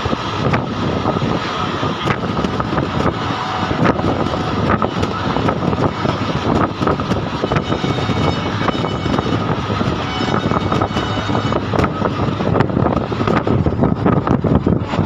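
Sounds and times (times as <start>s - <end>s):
train rumble and rush: 0.0s - 15.0s
wheels clicking on track: 0.0s - 15.0s.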